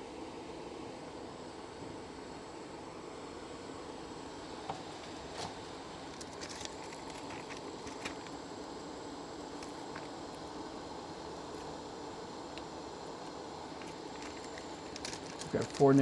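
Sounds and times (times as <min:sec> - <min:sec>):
workbench blowers rushing air: 0:00.8 - 0:16.0.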